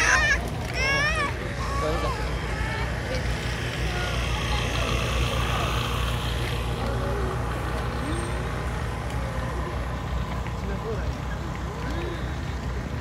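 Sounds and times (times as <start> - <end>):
faint distant voices: 0.0 - 13.0
steady low rumble: 0.0 - 13.0.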